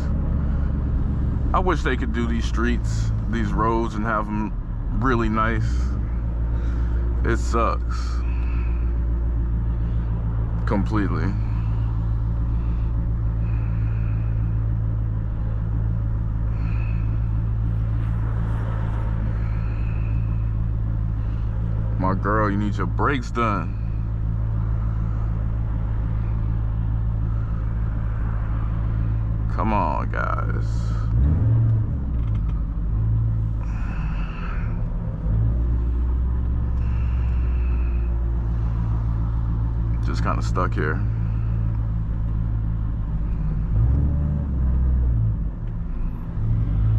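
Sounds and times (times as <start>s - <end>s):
car engine low drone: 0.0s - 46.9s
road noise: 0.0s - 46.9s.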